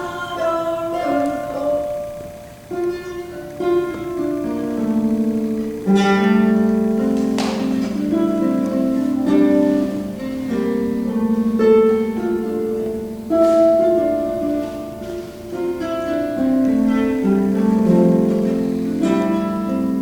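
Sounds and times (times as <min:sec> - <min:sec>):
harp playing: 0:00.0 - 0:20.0.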